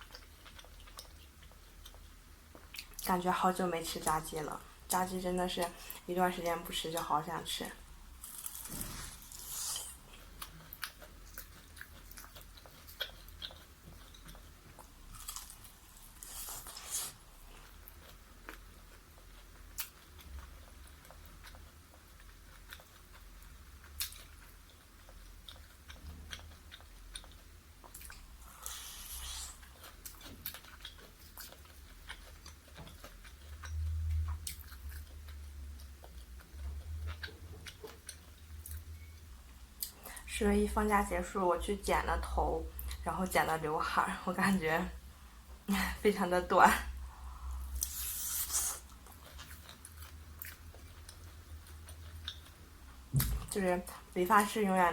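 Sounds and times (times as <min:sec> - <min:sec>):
chewing crispy fried chicken: 0:00.0 - 0:40.3, 0:46.9 - 0:54.6.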